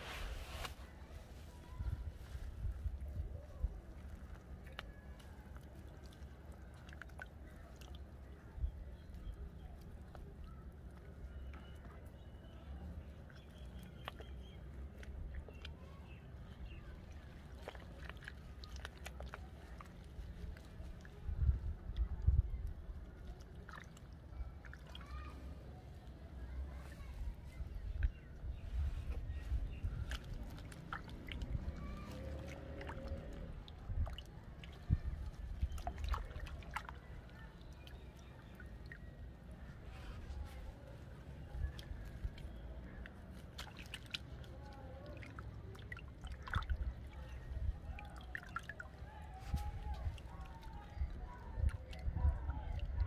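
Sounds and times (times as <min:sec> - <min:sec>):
hands squelching in muddy water: 0:00.0 - 0:53.0
small water splashes: 0:00.5 - 0:53.0.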